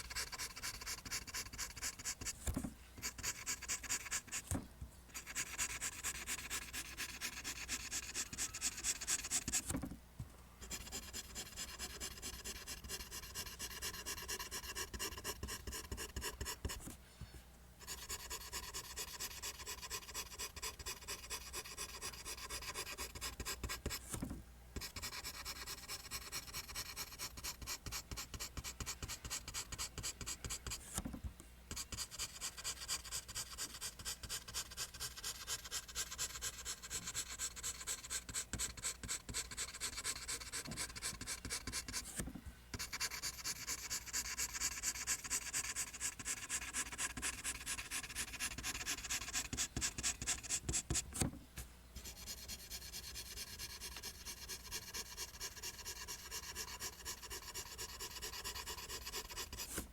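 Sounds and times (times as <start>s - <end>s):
pencil scratching on paper: 0.0s - 9.8s, 10.6s - 17.0s, 17.8s - 24.2s, 24.8s - 31.0s, 31.7s - 51.2s, 52.0s - 59.9s.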